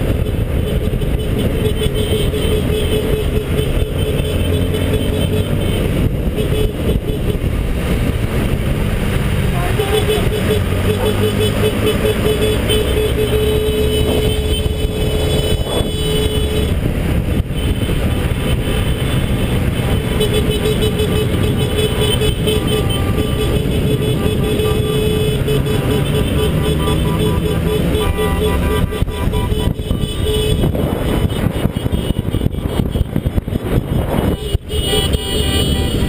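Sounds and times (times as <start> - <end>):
warbling horn: 0.0 - 7.5, 9.5 - 36.0
motorcycle engine: 0.0 - 36.0
wind on microphone: 0.0 - 36.0.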